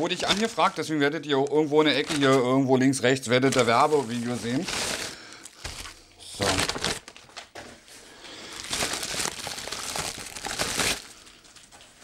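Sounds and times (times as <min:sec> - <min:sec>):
bubble wrap crinkling: 0:00.0 - 0:01.0, 0:01.6 - 0:02.6, 0:03.3 - 0:12.0.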